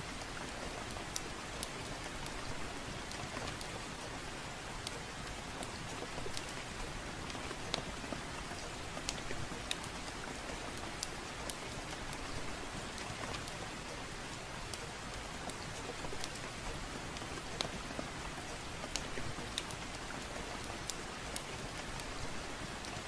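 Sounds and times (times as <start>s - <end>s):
soft rain falling: 0.0s - 23.0s.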